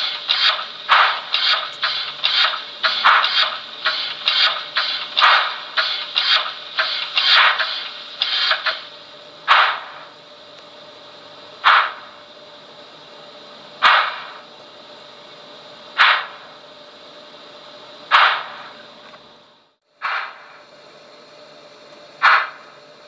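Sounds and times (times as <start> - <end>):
model steam locomotive chuffs: 0.0 - 23.0.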